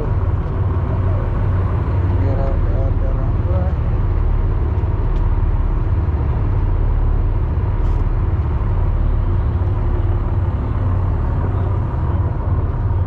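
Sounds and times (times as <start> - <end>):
boat engine running: 0.0 - 13.0
water: 0.0 - 13.0.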